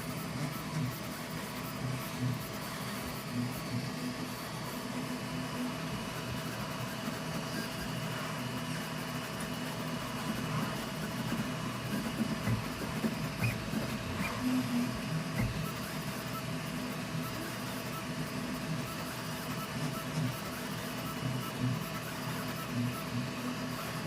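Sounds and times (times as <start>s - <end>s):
cooling fans humming: 0.0s - 24.0s
printer motors humming: 0.0s - 24.0s.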